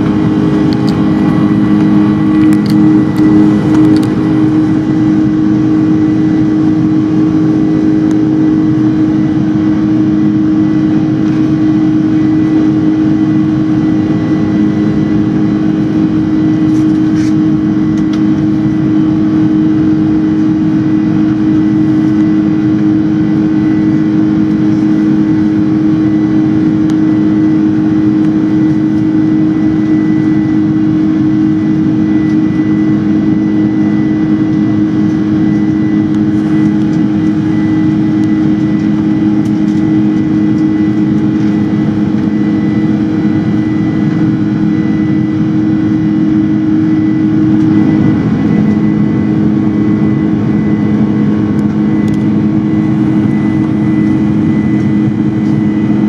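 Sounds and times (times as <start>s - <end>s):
aircraft cabin engine drone: 0.0s - 56.0s
thin high whine: 0.0s - 56.0s.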